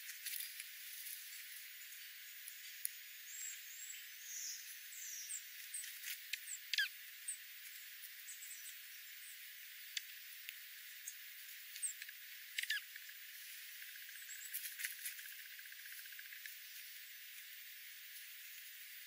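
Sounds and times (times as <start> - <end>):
songbirds chipping and twittering: 0.0 - 19.0.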